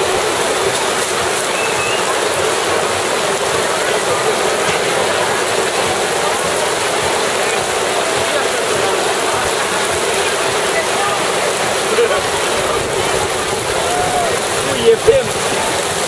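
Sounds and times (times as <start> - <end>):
heavy rain splashing: 0.0 - 16.0.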